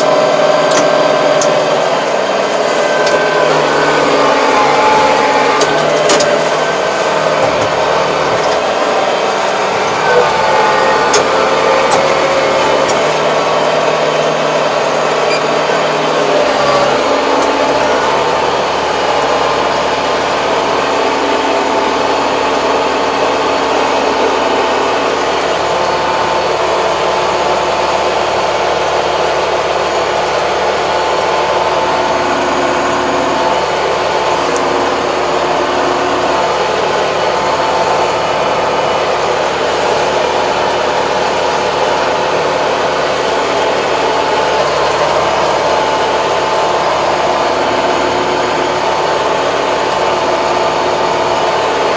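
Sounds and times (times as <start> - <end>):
high whine: 0.0 - 51.9
tractor diesel engine running: 0.0 - 51.9.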